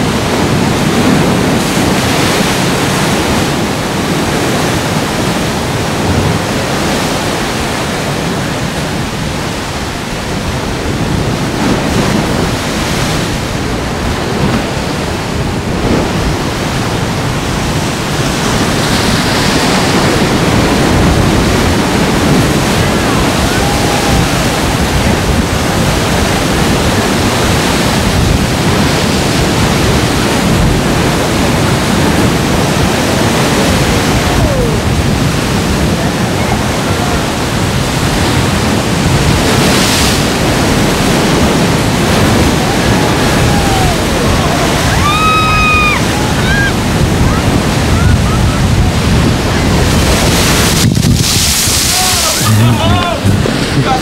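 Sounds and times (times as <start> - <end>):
surf crashing on rocks: 0.0 - 54.0.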